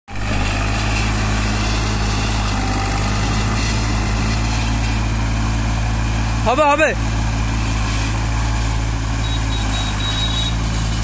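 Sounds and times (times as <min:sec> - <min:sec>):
tractor diesel engine under load: 0:00.1 - 0:11.0.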